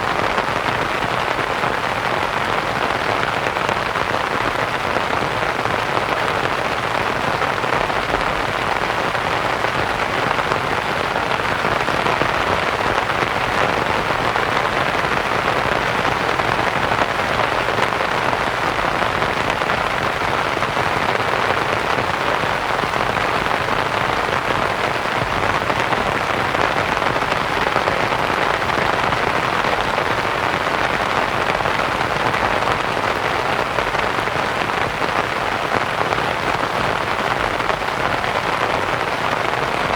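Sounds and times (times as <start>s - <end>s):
rain pattering on a tent: 0.0s - 39.9s.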